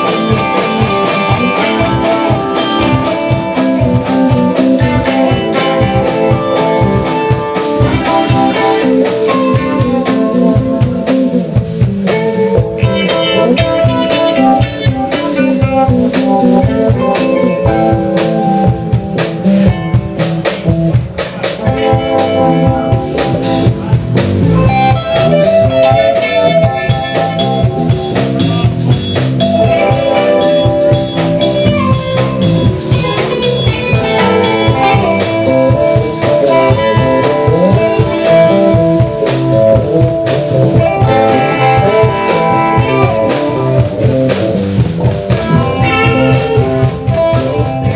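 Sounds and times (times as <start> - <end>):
instrumental blues band: 0.0 - 47.9.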